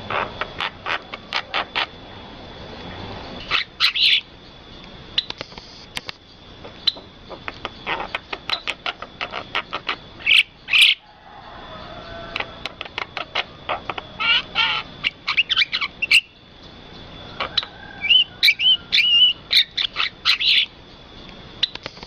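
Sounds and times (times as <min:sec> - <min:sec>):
starling chirping: 0:00.0 - 0:22.0.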